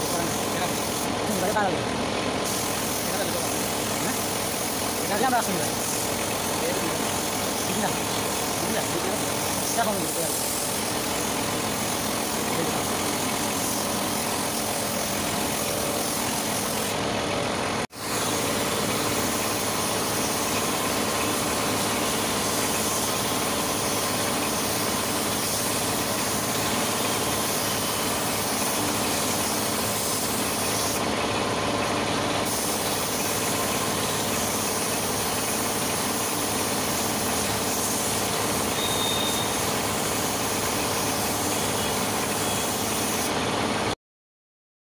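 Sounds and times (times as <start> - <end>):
spray gun hissing: 0.0 - 1.7, 2.4 - 17.0, 17.9 - 31.0, 32.4 - 43.3
air compressor humming: 0.0 - 43.9.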